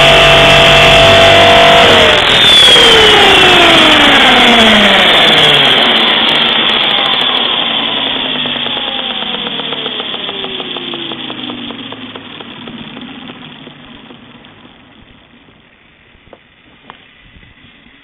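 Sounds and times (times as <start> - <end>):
rotor ticking: 0.0 - 16.5
helicopter motor whine spooling down: 0.0 - 18.0.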